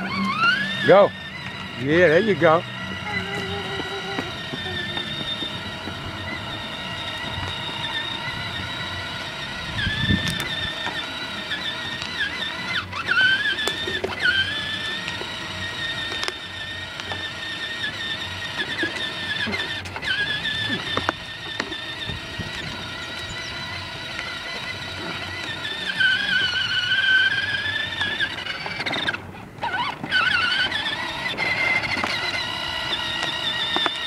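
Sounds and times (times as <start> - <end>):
toy electric motor whining: 0.0 - 34.0.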